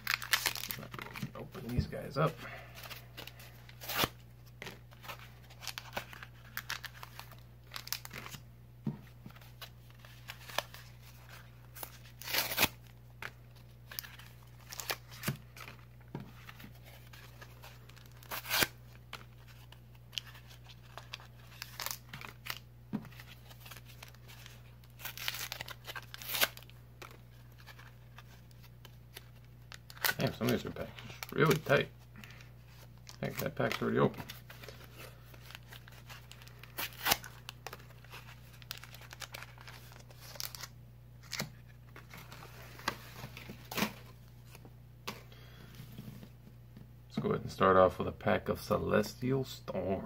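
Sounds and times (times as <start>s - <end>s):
foil packaging crinkling and tearing: 0.0s - 8.4s, 9.4s - 44.6s.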